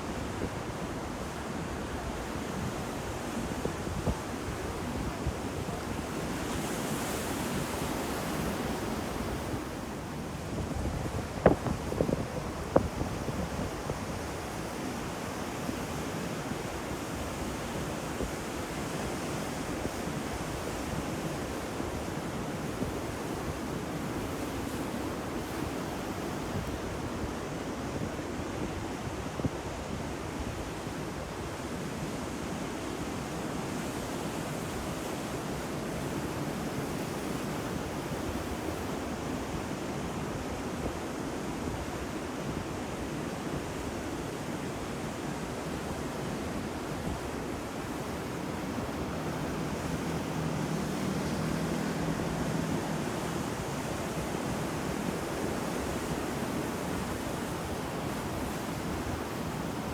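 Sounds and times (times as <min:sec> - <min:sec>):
ocean surf washing: 0:00.0 - 0:29.8, 0:32.6 - 0:59.9.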